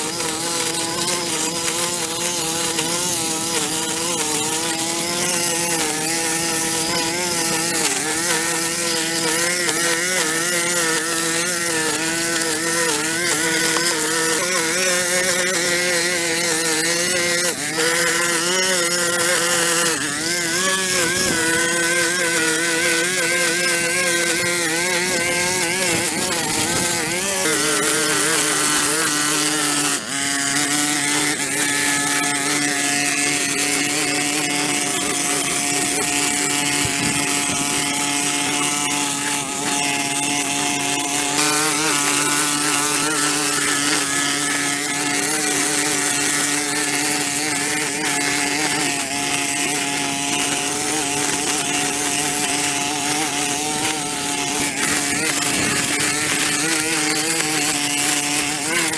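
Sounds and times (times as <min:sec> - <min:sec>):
small petrol engine running: 0:00.0 - 0:58.9.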